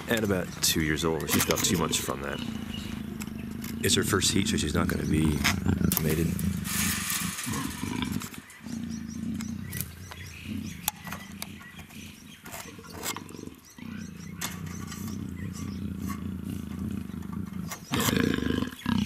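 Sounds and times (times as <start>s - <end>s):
leopard growling calls: 0.0s - 19.0s.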